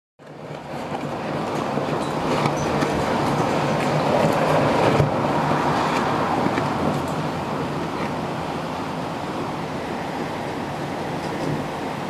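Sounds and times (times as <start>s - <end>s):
strong gusty wind: 0.2s - 12.0s.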